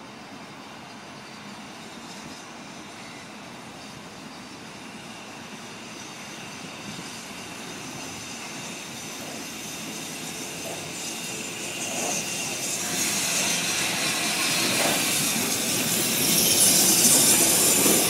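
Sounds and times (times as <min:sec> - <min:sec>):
steam locomotive approaching: 0:00.0 - 0:18.0.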